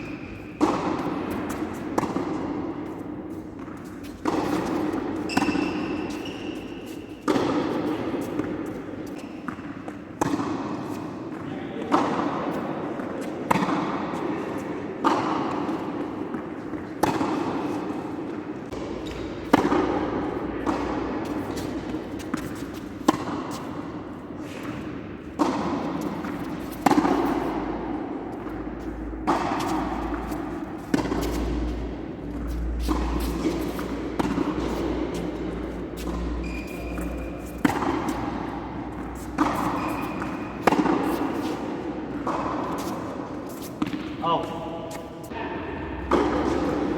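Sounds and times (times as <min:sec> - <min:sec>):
tennis ball hit by rackets: 0:00.0 - 0:46.9.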